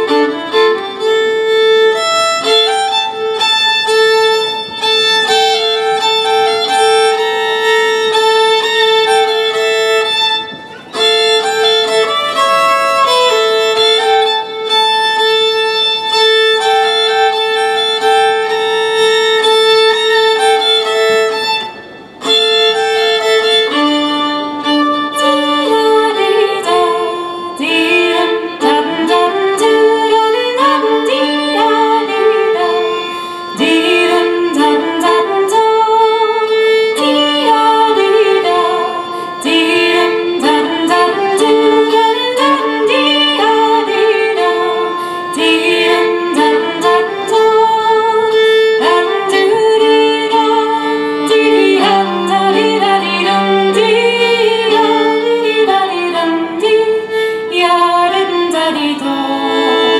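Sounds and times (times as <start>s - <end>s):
accordion: 0.0s - 59.9s
fiddle: 0.0s - 59.9s.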